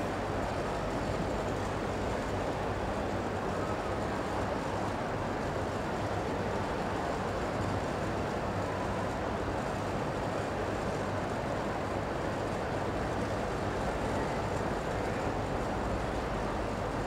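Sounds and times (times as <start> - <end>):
indoor hall background noise: 0.0 - 17.0.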